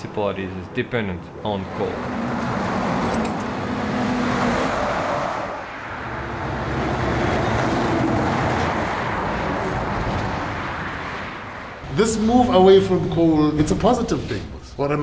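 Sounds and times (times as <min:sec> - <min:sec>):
vehicles passing: 0:00.0 - 0:14.8.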